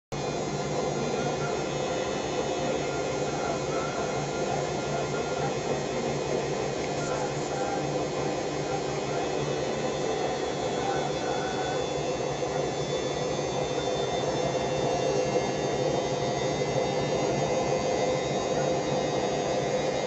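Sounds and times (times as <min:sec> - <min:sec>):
washing machine motor hum: 0:00.1 - 0:20.0.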